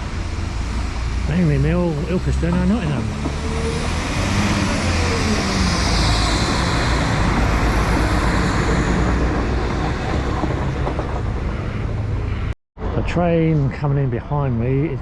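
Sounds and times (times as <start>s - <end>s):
diesel train rumble: 0.0s - 13.6s.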